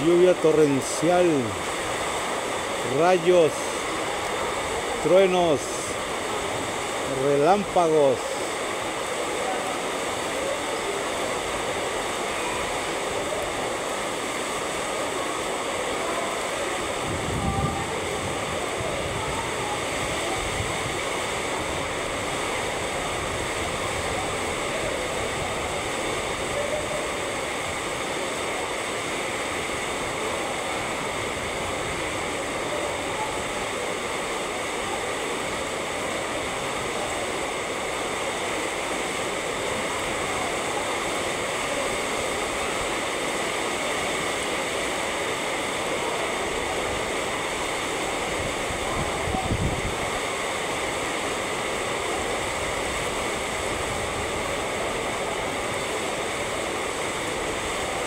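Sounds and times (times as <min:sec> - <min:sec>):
torrential rain pouring: 0:00.0 - 0:58.0.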